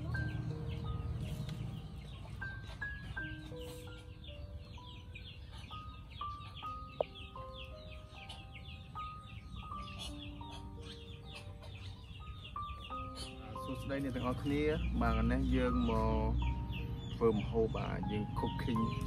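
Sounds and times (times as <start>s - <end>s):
background music melody: 0.0s - 19.0s.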